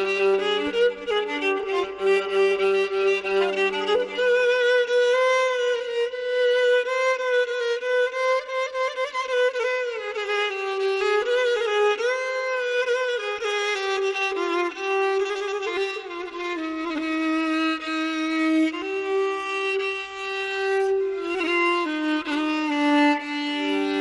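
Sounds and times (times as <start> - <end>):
violin playing slow melody: 0.0 - 24.0.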